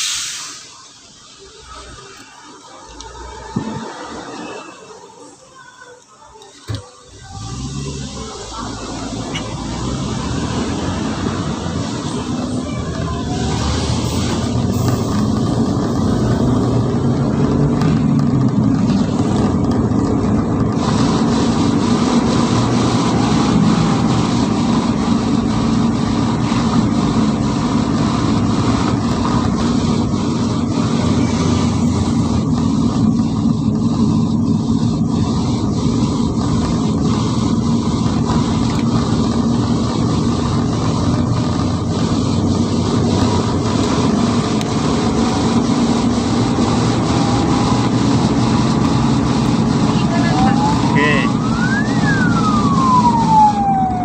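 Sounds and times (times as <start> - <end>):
ambulance engine and road noise: 0.0 - 54.0.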